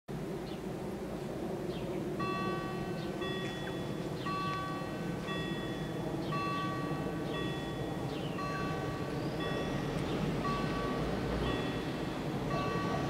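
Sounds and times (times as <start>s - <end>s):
level crossing warning bells ringing: 2.2s - 13.0s.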